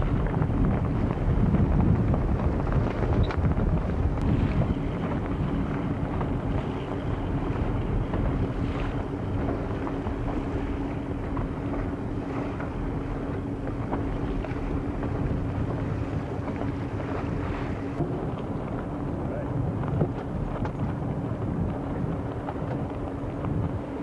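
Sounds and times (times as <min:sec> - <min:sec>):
steady low hum: 0:00.0 - 0:24.0
wind buffeting microphone: 0:00.0 - 0:24.0.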